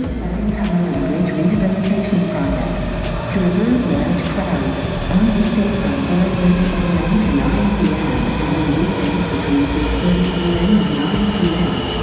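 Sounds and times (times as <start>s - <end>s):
subway train rumbling and whining: 0.0s - 12.0s.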